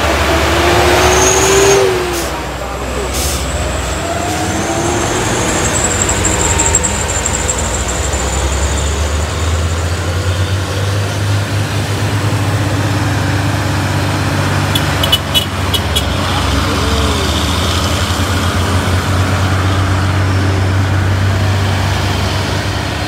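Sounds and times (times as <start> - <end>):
heavy truck engine running: 0.0 - 23.0.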